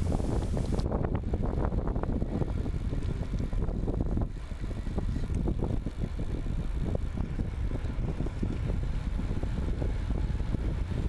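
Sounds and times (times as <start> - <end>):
tyre and road noise: 0.0 - 11.0
wind buffeting microphone: 0.0 - 11.0.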